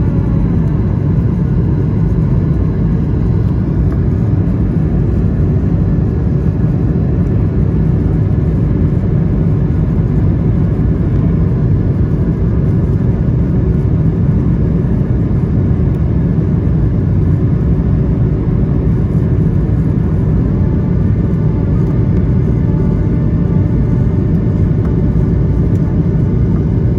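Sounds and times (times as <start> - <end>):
aircraft cabin rumble: 0.0 - 26.9
faint engine tones: 0.0 - 26.9.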